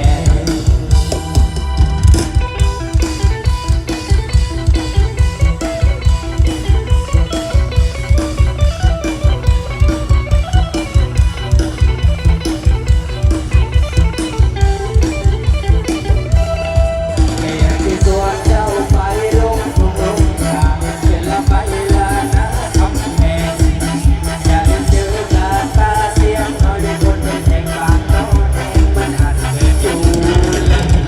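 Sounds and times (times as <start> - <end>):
electric plucked-string melody: 0.0 - 31.0
fast bass drum beat: 0.0 - 31.0.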